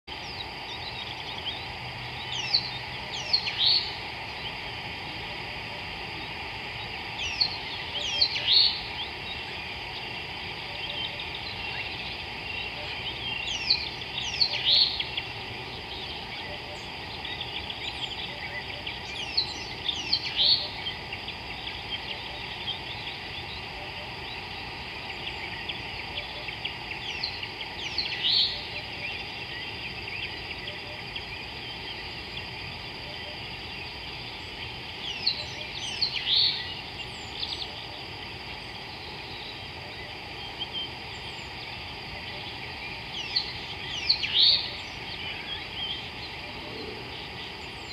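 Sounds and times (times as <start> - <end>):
steady high drone: 0.1 - 47.9.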